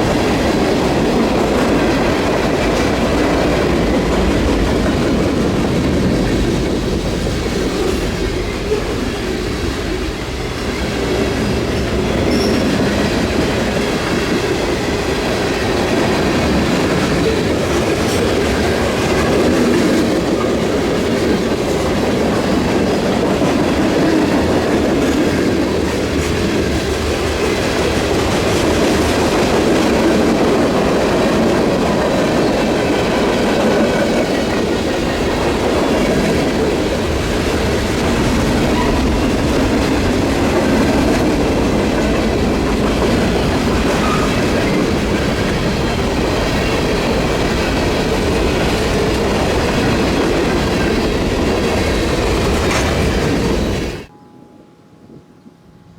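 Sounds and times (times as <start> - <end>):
freight train wheels on rails: 0.0 - 54.1.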